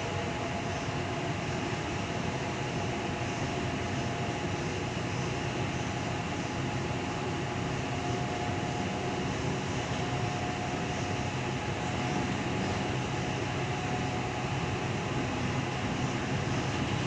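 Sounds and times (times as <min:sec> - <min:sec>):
electric train running noise: 0:00.0 - 0:17.0
faint steady whine: 0:00.0 - 0:17.0.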